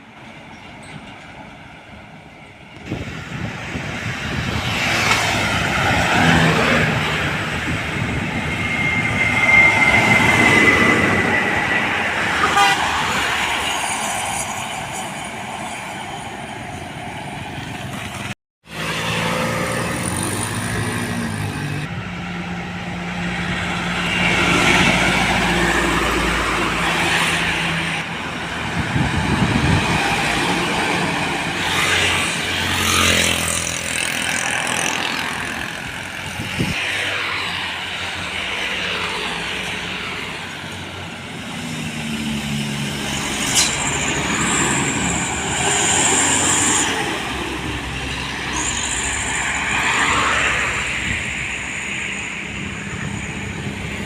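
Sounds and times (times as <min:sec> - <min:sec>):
trucks and buses driving past: 0:00.0 - 0:54.0.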